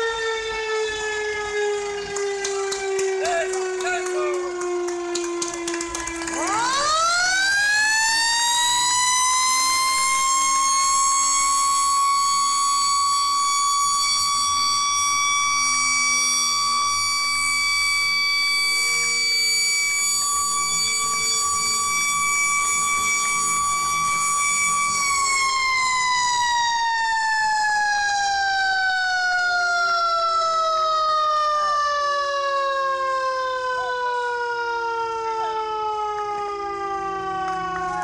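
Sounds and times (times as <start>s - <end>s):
faint siren gliding down and up: 0.0s - 38.0s
fire siren winding up: 0.0s - 38.0s.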